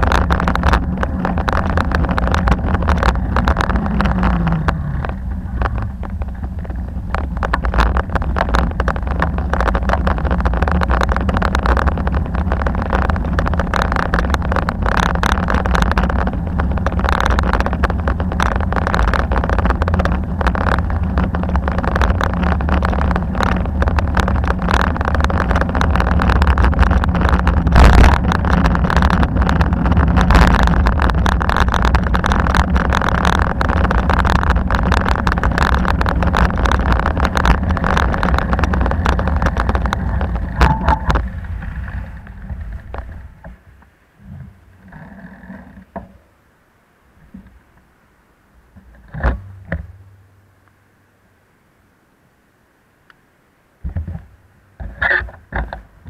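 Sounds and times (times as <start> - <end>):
wind rushing over microphone: 0.0 - 44.9
knocks from bumps: 0.0 - 46.2, 53.8 - 56.0
road rumble: 0.0 - 56.0.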